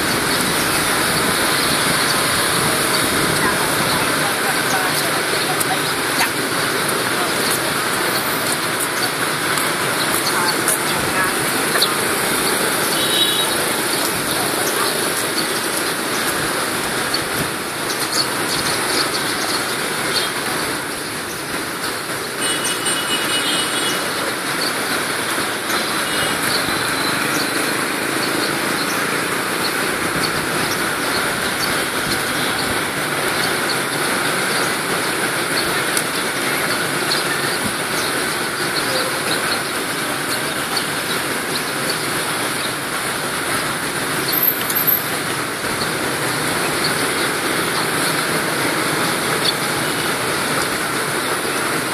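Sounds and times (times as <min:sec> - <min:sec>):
street traffic: 0:00.0 - 0:51.9.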